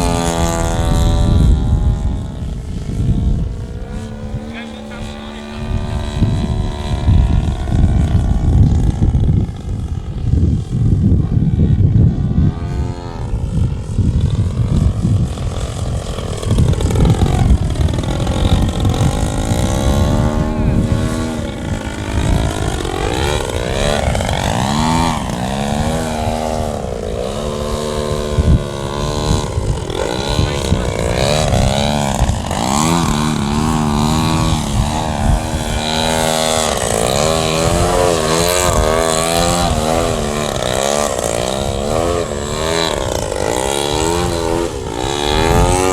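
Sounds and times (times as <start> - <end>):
model plane engine: 0.0 - 45.9
wind rumble on microphone: 0.0 - 45.9.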